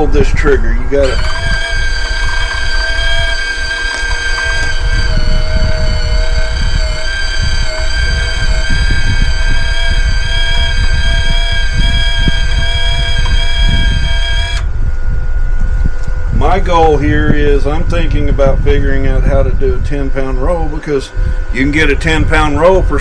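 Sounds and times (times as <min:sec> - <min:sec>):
constant low rumble: 0:00.0 - 0:23.0
welder wire-feed motor whine: 0:00.0 - 0:23.0.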